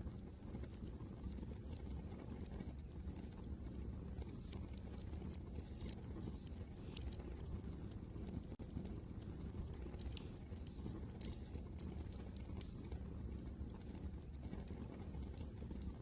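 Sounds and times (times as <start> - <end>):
low rumble of wind: 0.0 - 16.0
wood fire crackling: 0.0 - 16.0.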